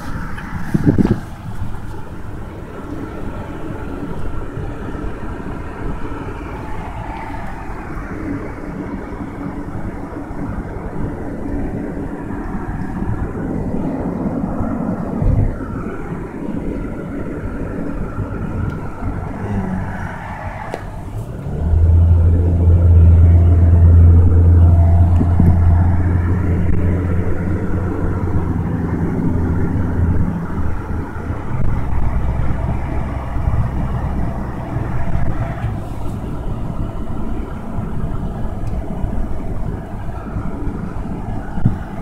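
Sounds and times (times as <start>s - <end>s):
road and engine rumble: 0.0s - 42.0s
loud low hum: 7.6s - 42.0s.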